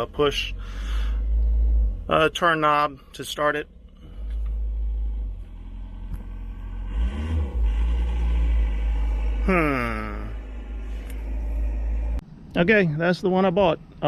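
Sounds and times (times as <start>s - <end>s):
diesel engine starting and running: 0.0s - 12.5s.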